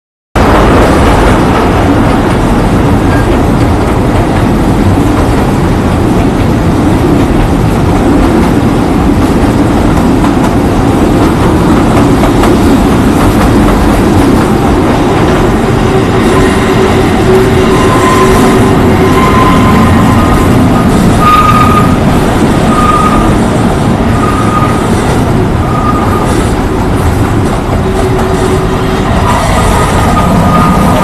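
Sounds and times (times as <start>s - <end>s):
train wheels rumbling on rail: 0.4s - 31.0s.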